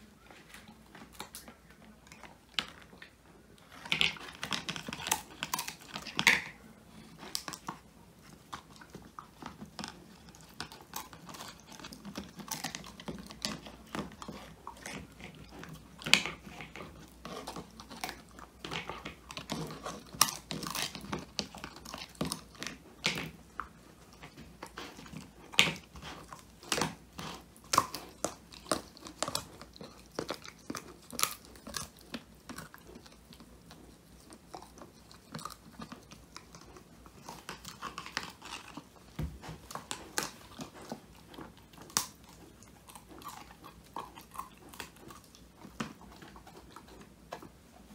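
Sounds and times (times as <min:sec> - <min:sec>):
puppy chewing and crunching treat: 0:00.0 - 0:47.9.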